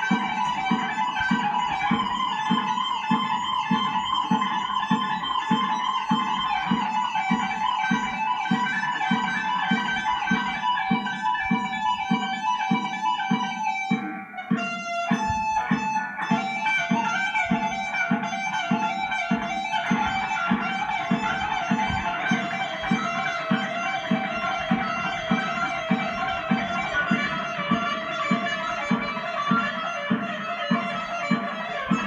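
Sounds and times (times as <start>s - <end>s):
fast picked electric guitar: 0.0s - 32.0s
steady low beat: 0.0s - 32.0s.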